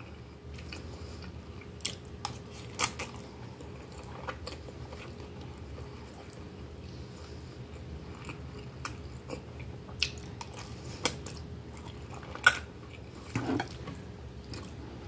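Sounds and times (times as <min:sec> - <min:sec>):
person chewing food: 0:00.0 - 0:14.9.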